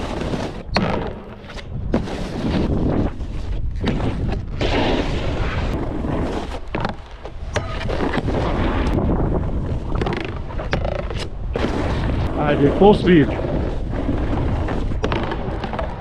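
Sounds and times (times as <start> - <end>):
snowboard scraping over snow: 0.0 - 16.0
wind rumbling on microphone: 0.0 - 16.0.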